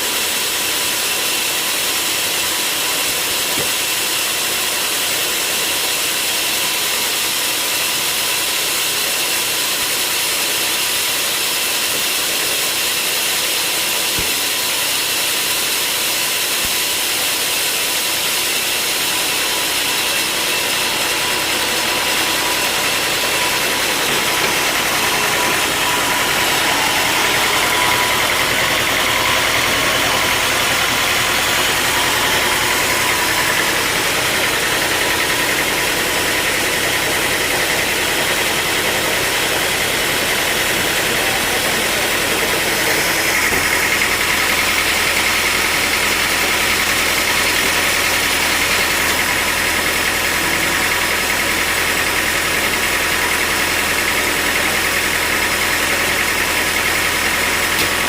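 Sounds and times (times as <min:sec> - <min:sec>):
sawmill machinery hiss and whine: 0:00.0 - 0:58.0.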